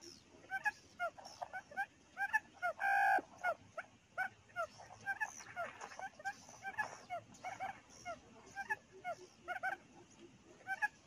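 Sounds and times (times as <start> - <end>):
quails calling: 0.0 - 11.0.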